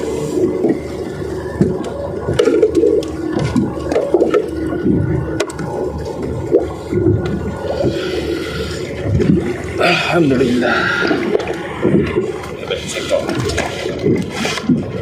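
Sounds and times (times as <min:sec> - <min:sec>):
water sloshing and gurgling: 0:00.0 - 0:15.0.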